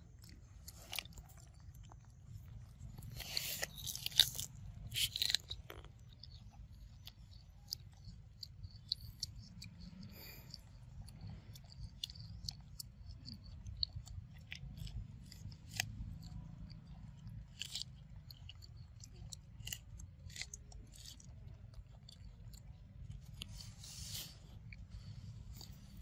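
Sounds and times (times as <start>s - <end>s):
monkeys chewing corn kernels: 0.0s - 26.0s.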